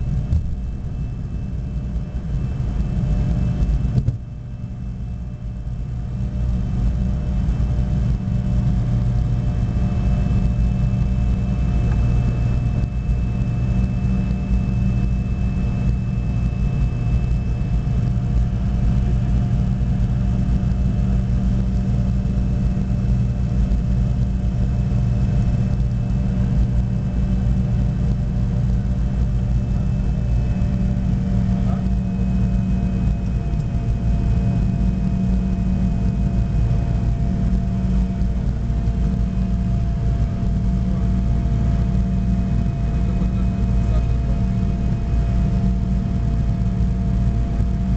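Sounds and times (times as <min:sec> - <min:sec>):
deep rumble of jet engines: 0:00.0 - 0:47.9
thin steady whine: 0:00.0 - 0:47.9.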